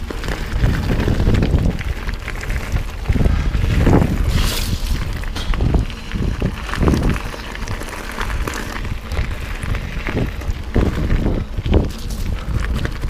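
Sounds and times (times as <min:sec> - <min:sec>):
bike knocking and rattling: 0:00.0 - 0:13.0
tyres rumbling: 0:00.0 - 0:13.0
wind buffeting microphone: 0:00.0 - 0:13.0.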